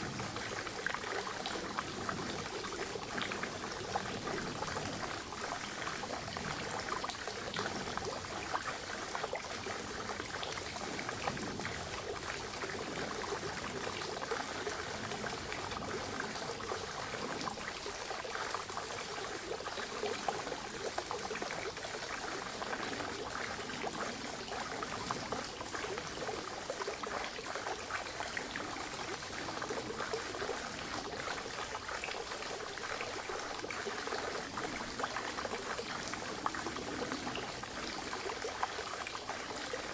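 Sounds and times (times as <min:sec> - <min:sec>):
spring water trickling and splashing: 0:00.0 - 0:39.9.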